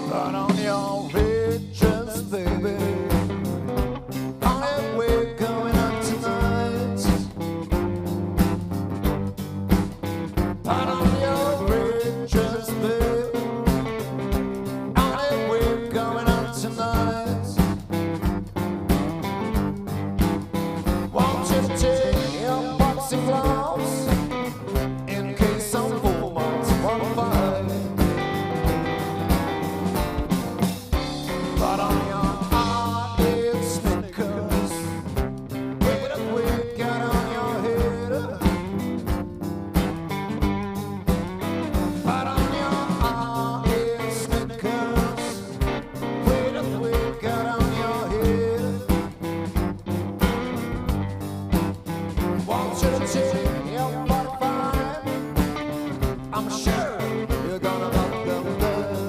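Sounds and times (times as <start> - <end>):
bass: 0.0 - 59.0
blues-rock band playing: 0.0 - 59.0
guitar line: 0.0 - 59.0
steady drum beat: 0.0 - 59.0.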